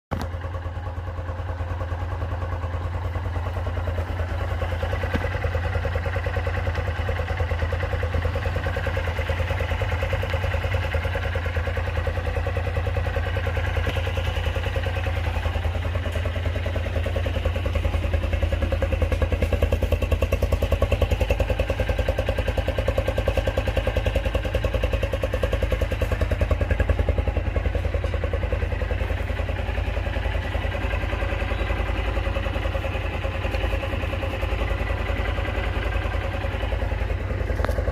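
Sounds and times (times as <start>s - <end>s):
motorcycle engine running: 0.1s - 37.9s.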